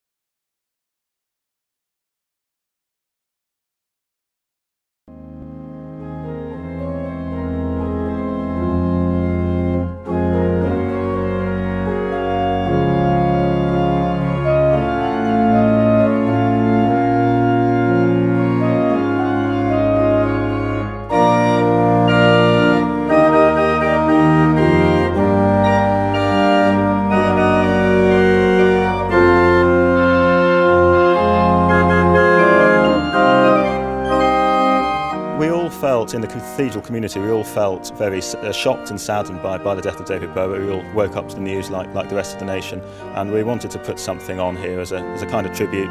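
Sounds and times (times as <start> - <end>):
pipe organ playing chords: 5.1 - 45.9.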